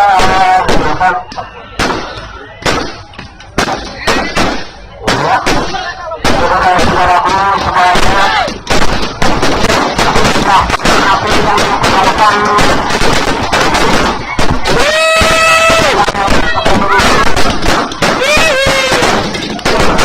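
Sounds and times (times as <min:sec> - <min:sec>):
firecrackers banging: 0:00.0 - 0:20.0.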